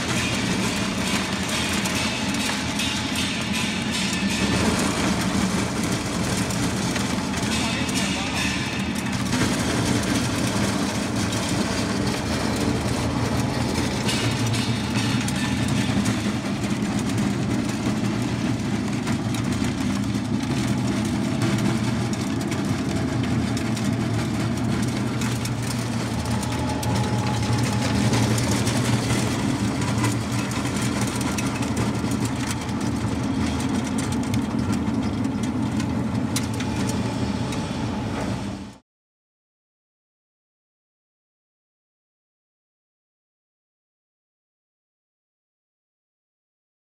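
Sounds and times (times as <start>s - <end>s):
pellet mill humming: 0.0s - 38.8s.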